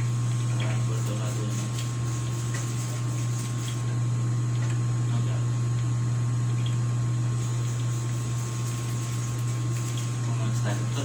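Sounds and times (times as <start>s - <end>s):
low electric motor hum: 0.0s - 11.0s.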